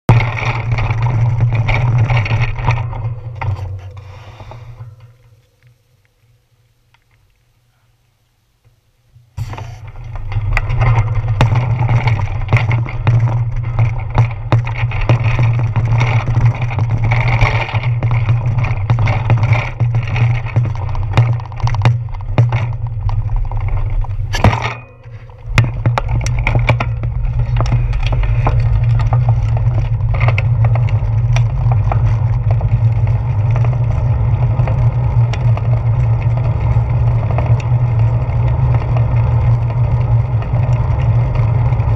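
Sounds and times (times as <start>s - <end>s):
wind and road vibration rumble: 0.0s - 7.5s, 9.2s - 41.9s
bicycle clicks and rattles: 0.1s - 6.3s, 9.4s - 41.9s.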